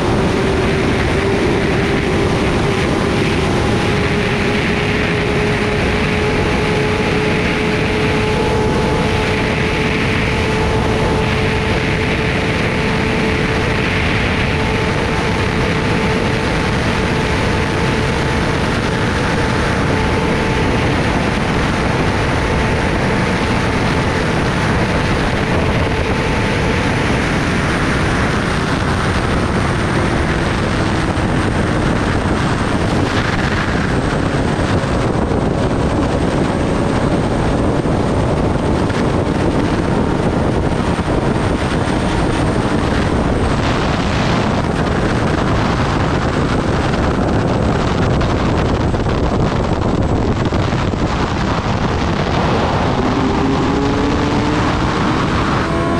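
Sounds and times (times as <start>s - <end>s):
motorcycle engine cruising: 0.0s - 55.9s
wind rush: 0.0s - 55.9s.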